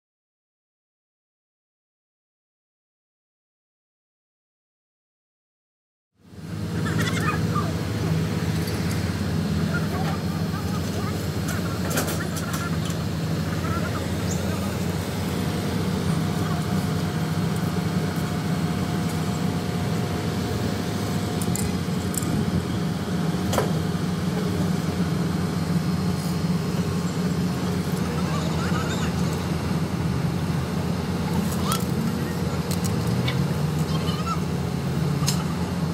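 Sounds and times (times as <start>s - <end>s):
crane diesel engine droning: 6.2s - 35.9s.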